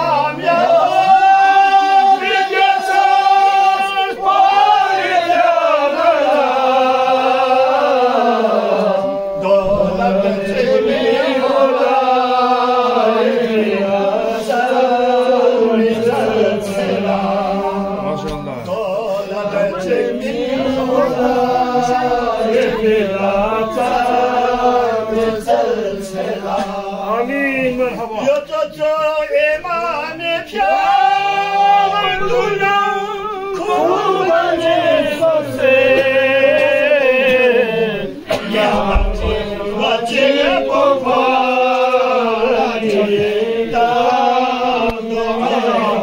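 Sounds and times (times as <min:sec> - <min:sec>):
men chanting together: 0:00.0 - 0:46.0.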